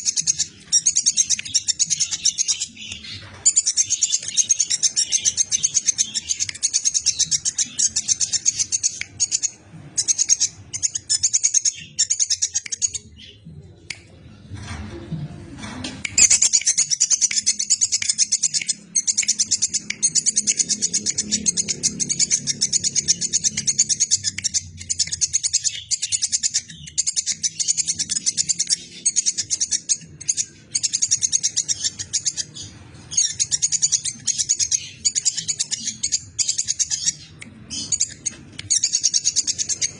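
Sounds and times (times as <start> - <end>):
squirrel chirping rapidly: 0.0 - 13.1, 16.2 - 39.9.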